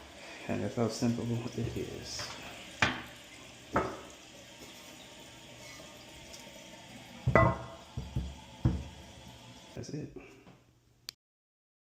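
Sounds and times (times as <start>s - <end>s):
toilet tank refilling: 0.0s - 9.8s.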